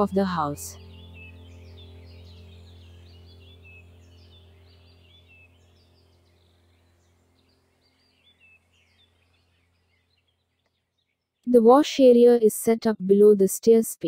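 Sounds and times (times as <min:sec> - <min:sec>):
low steady hum: 0:00.0 - 0:12.4
small birds chirping: 0:00.0 - 0:14.0.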